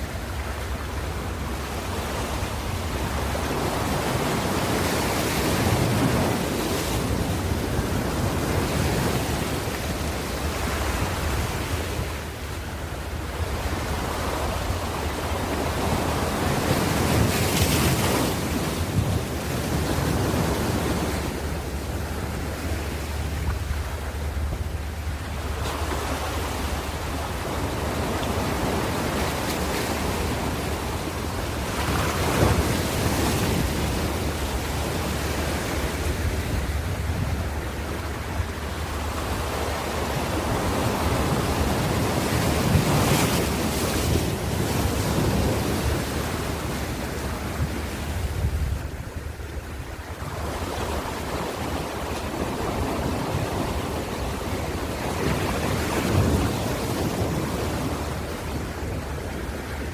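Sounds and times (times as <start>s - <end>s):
low wind rumble: 0.0s - 59.9s
waves breaking: 0.0s - 59.9s.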